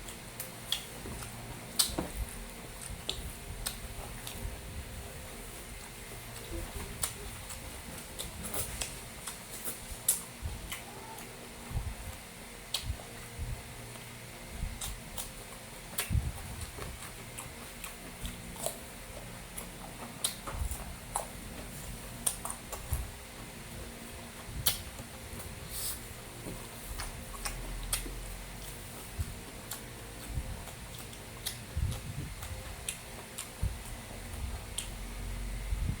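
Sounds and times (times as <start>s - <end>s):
person chewing food: 0.0s - 35.4s
faint steady hum: 0.0s - 36.0s.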